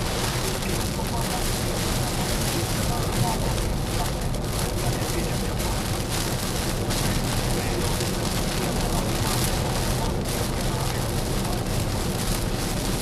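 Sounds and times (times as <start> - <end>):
water spraying on a car: 0.0 - 13.0.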